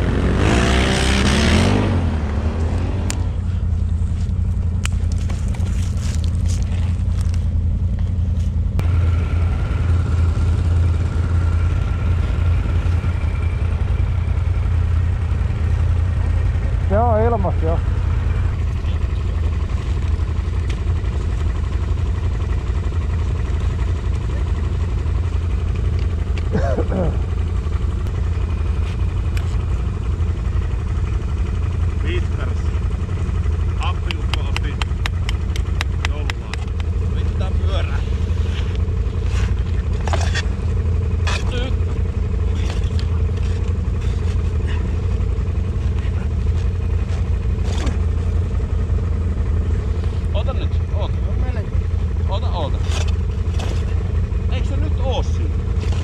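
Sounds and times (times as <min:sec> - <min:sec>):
atv engine idling: 0:00.0 - 0:56.0.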